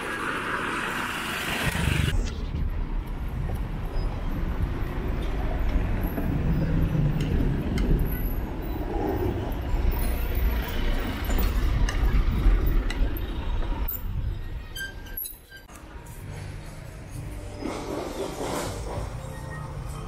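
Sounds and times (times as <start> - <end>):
vehicle traffic: 0.0 - 20.0.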